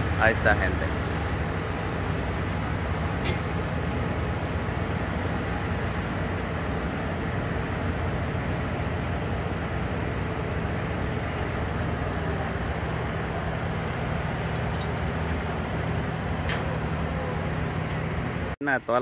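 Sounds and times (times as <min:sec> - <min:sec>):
pickup trucks idling: 0:00.0 - 0:18.6.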